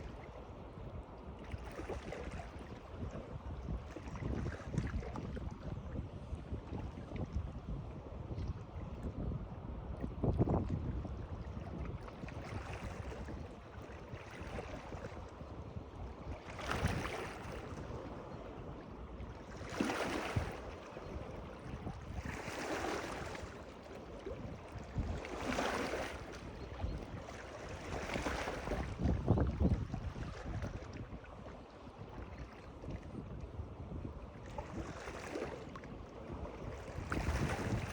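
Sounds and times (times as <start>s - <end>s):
wind on microphone: 0.0s - 37.9s.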